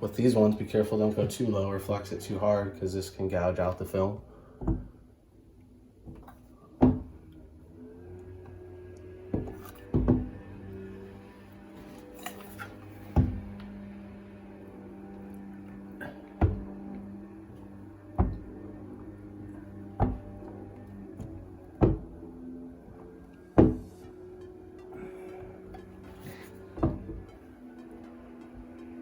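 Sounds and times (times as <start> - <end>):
background music: 5.0 - 29.0.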